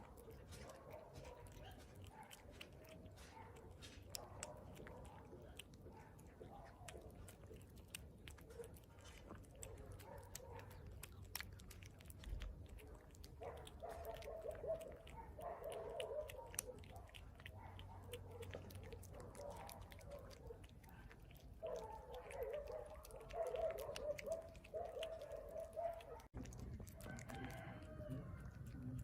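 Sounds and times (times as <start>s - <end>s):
cat chewing food: 0.0s - 29.0s.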